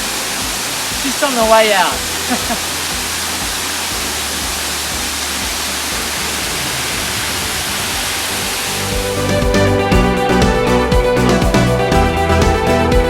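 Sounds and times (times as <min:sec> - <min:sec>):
background music: 0:00.0 - 0:13.0
waterfall rushing: 0:00.0 - 0:13.0.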